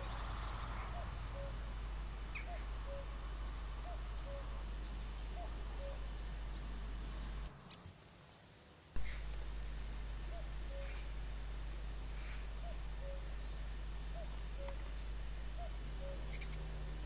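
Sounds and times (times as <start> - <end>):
faint high chirping: 0.0 - 9.3, 10.2 - 17.0
steady low hum: 0.0 - 17.0.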